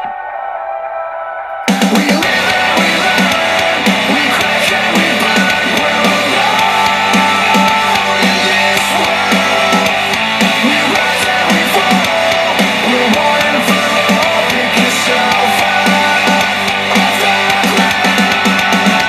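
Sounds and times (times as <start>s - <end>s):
instrumental rock music with guitar: 1.7s - 19.0s.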